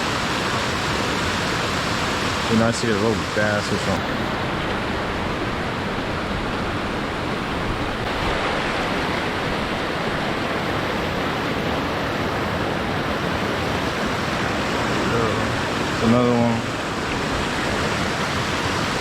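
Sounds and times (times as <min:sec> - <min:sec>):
water rushing over spillway: 0:00.0 - 0:19.0.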